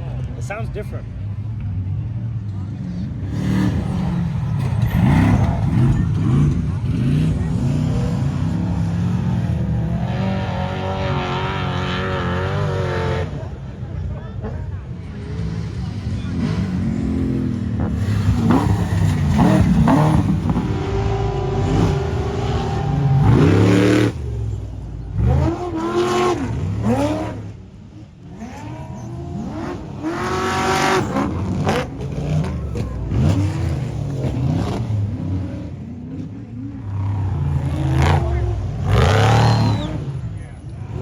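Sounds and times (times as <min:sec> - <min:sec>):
truck engines revving hard: 0:00.0 - 0:41.0.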